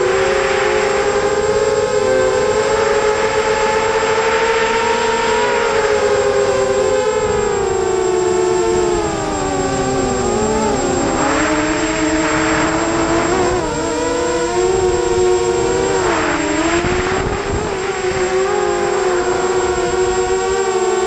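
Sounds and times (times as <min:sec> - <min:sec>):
drone motors whining: 0:00.0 - 0:21.0
rushing wind: 0:00.0 - 0:21.0.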